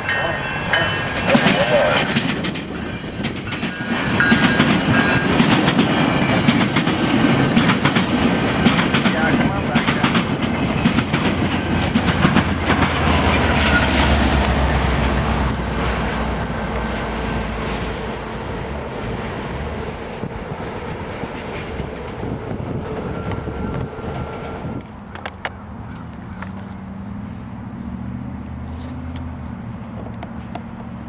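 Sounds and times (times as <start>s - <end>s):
wheels clacking over rail joints: 0.0s - 26.9s
train rumbling past: 0.0s - 31.0s.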